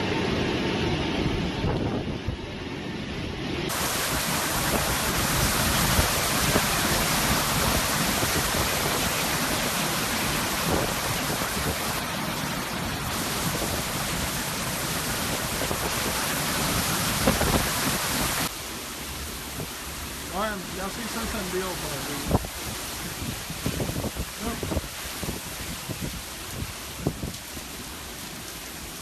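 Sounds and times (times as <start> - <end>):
heavy rain and wind roar: 0.0 - 29.0.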